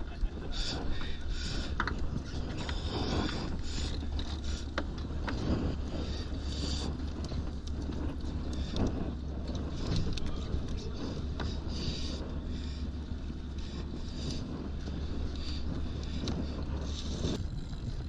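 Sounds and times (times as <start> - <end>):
boat creaking: 0.0 - 18.0
boat low rumble: 0.0 - 18.0
wind on microphone: 0.0 - 18.0.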